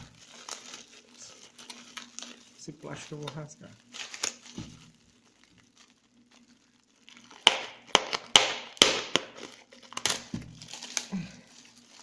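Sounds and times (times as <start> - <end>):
plastic wrapping tearing and crinkling: 0.0 - 12.0.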